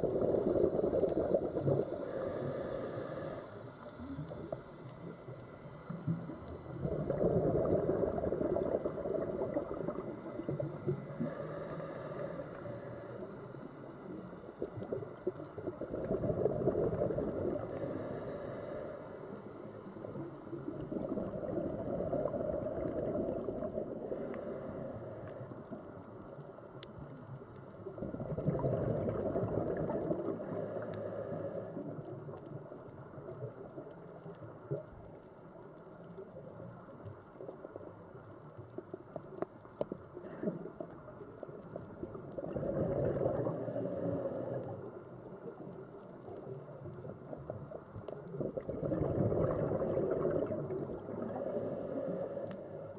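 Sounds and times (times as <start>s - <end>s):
low hiss: 0.0s - 52.9s
underwater bubbles gurgling: 0.0s - 52.9s.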